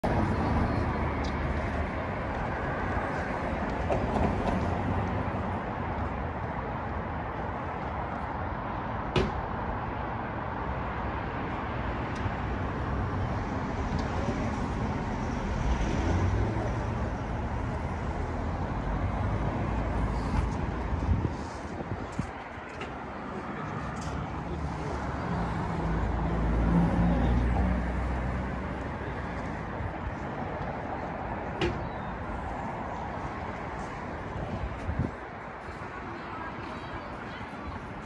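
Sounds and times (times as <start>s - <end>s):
road traffic: 0.0s - 38.0s.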